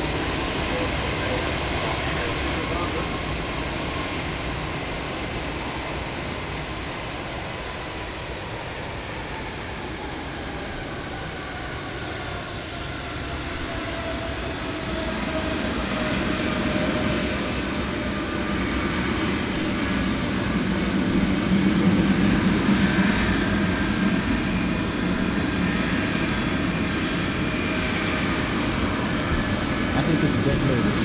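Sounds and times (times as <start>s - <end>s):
jet engines taxiing: 0.0s - 31.0s.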